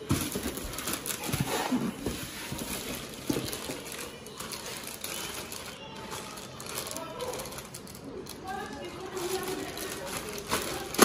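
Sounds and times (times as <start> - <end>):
cardboard and plastic rustling: 0.0 - 11.0.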